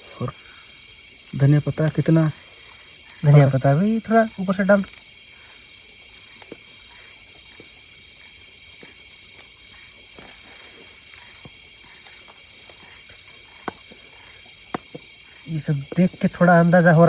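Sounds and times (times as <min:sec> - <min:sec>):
crickets and night insects: 0:00.0 - 0:17.0.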